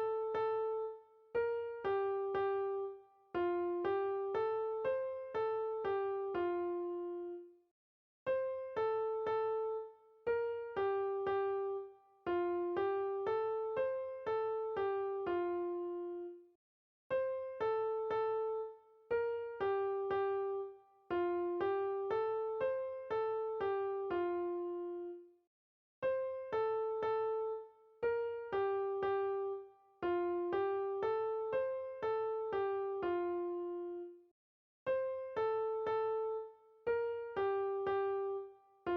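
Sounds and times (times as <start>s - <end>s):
gentle keyboard melody: 0.0s - 7.6s, 8.3s - 16.5s, 17.1s - 25.3s, 26.0s - 34.3s, 34.9s - 38.9s.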